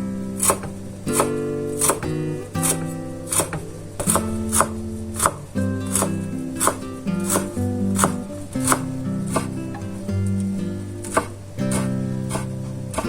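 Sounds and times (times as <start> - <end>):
acoustic guitar music: 0.0 - 13.0
sharp evenly spaced strikes: 0.4 - 13.0.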